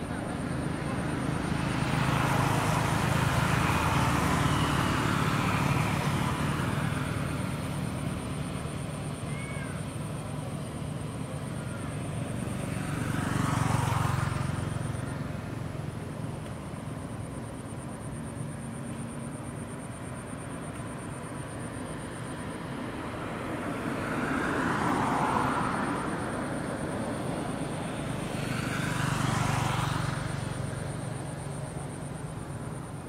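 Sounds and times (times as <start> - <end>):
passing vehicle engine rumble: 0.0 - 33.0.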